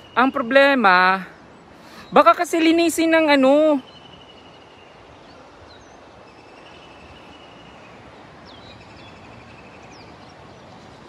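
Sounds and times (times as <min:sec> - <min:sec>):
background hiss: 0:00.0 - 0:11.0
faint bird chirps: 0:00.0 - 0:11.0.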